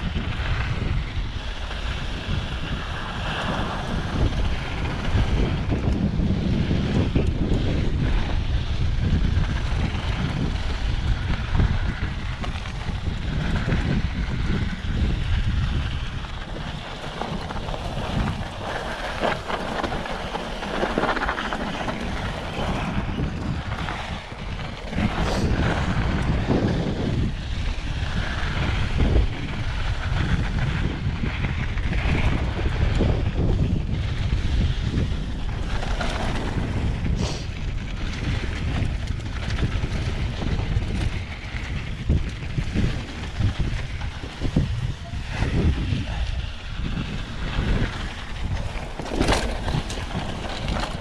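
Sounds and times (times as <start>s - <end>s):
tyres rolling on gravel: 0.0s - 51.0s
wind buffeting microphone: 0.0s - 51.0s.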